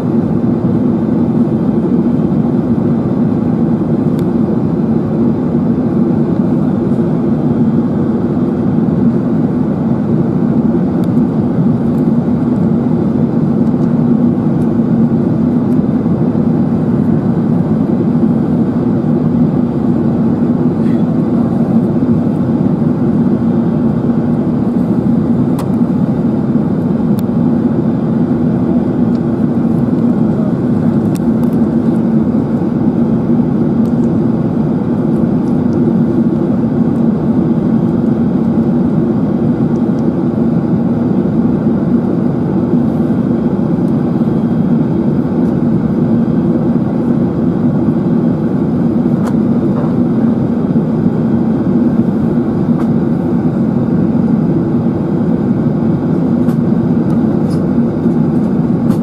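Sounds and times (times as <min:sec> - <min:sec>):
airflow over aircraft fuselage: 0:00.0 - 0:59.0
jet engines humming: 0:00.0 - 0:59.0.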